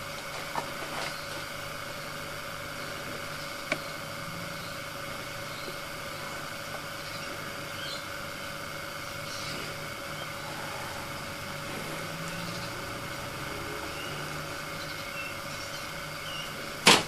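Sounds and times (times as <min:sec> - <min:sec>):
small electric motor humming: 0:00.0 - 0:16.9.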